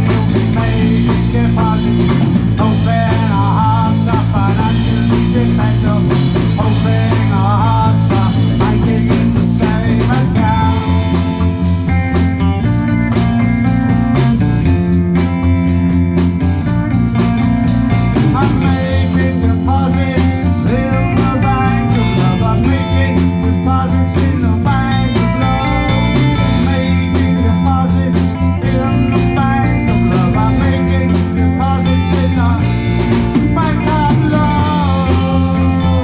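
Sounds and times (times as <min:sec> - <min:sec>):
bass guitar: 0:00.0 - 0:36.0
driving drumbeat: 0:00.0 - 0:36.0
electric guitar: 0:00.0 - 0:36.0
percussion: 0:00.0 - 0:36.0.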